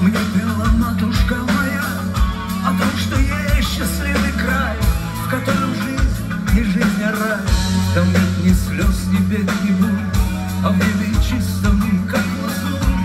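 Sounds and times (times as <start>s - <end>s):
live rock band playing: 0.0s - 13.0s
steady drum beat: 0.0s - 13.0s.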